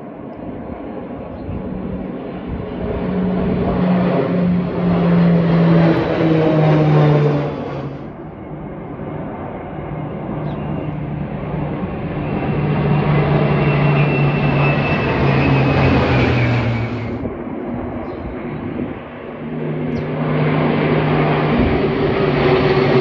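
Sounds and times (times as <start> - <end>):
propeller aircraft engine drone: 0.0 - 23.0.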